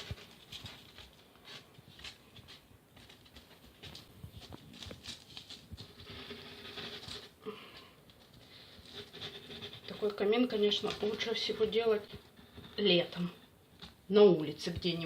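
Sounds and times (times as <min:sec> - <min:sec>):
hands scratching foam sheets: 0:00.0 - 0:13.0.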